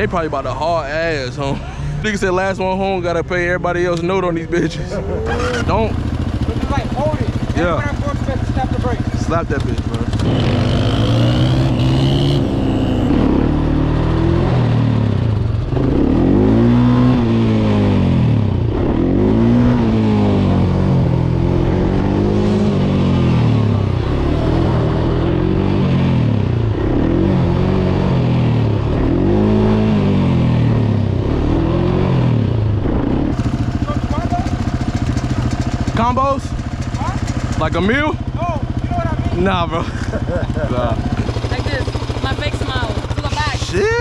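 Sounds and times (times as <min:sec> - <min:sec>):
vehicle engine revving: 0:04.6 - 0:44.0.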